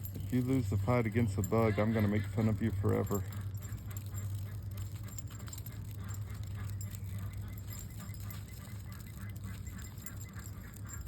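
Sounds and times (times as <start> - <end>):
ducks quacking: 1.5 - 11.0.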